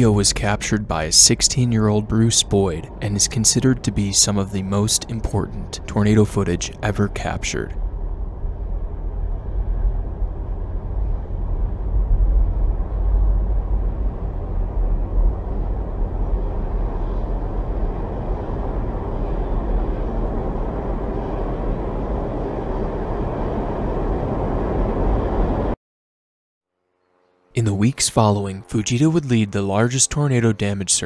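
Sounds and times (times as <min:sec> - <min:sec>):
tornado wind rumbling: 0:00.0 - 0:25.8.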